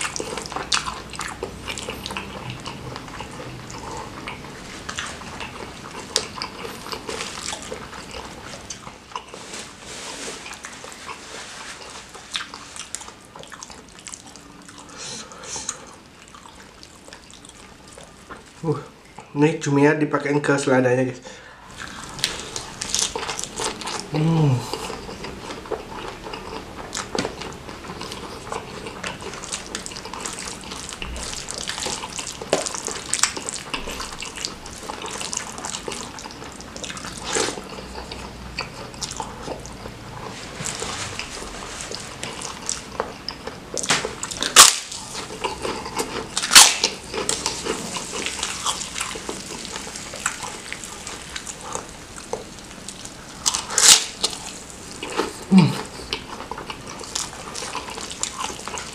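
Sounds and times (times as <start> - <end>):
wet chewing and lip-smacking: 0.0 - 9.4, 10.4 - 19.3, 21.7 - 58.9.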